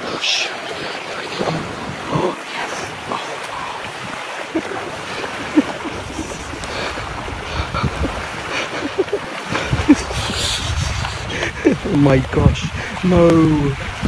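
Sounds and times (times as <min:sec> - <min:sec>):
small waves washing on sand: 0:00.0 - 0:14.0
wind buffeting microphone: 0:01.1 - 0:14.0.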